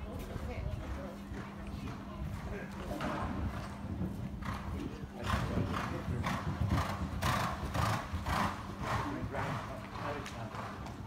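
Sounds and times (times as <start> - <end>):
horse cantering on sand: 0.0 - 11.0.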